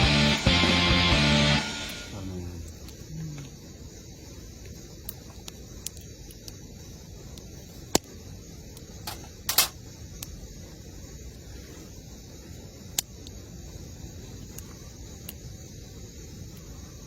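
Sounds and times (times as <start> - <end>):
campfire hissing: 0.0 - 17.0.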